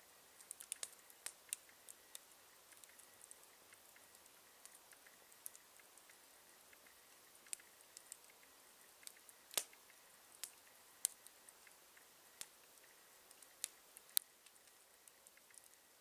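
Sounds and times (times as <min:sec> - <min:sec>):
campfire crackling: 0:00.0 - 0:16.0
faint steady hiss: 0:00.0 - 0:16.0.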